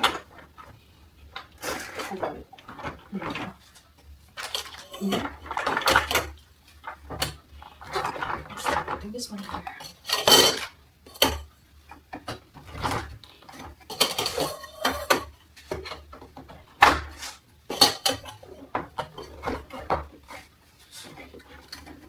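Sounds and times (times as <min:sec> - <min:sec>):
metal drying rack parts clattering: 0:01.3 - 0:11.4, 0:12.2 - 0:22.0.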